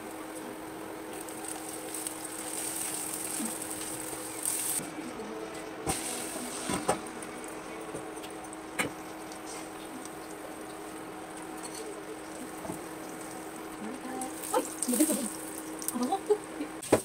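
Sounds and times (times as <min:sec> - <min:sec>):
egg sizzling in oil: 0:00.0 - 0:04.8, 0:05.5 - 0:17.0
faint steady hum: 0:00.0 - 0:16.9.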